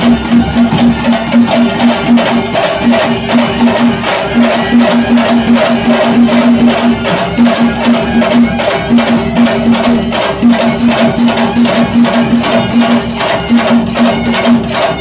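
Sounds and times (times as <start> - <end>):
rhythmic percussion music: 0.0 - 15.0.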